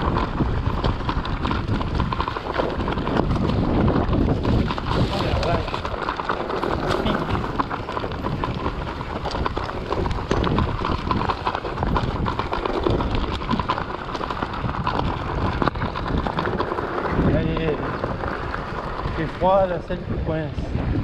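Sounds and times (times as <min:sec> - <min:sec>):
bike tyres rattling on rocks: 0:00.0 - 0:21.0
wind on microphone: 0:00.0 - 0:21.0.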